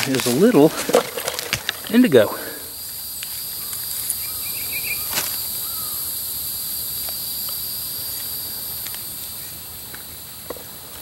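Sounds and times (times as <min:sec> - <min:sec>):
chorus of insects: 0:00.0 - 0:11.0.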